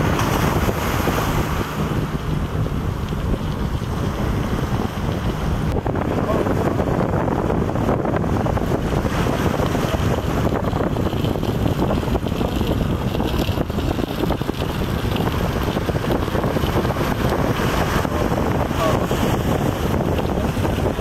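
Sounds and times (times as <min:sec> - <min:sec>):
boat on open water: 0:00.0 - 0:21.0
wind noise on microphone: 0:00.0 - 0:21.0.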